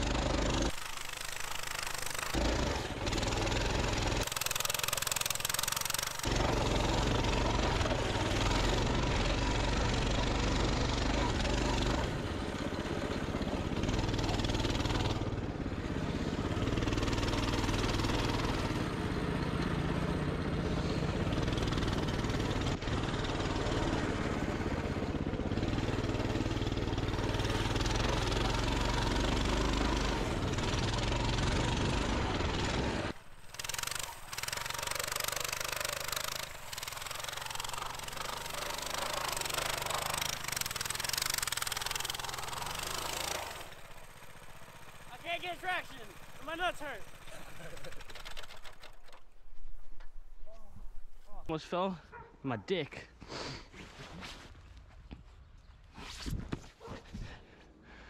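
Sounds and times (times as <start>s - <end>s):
small motorbike engine revving: 0.0s - 49.4s.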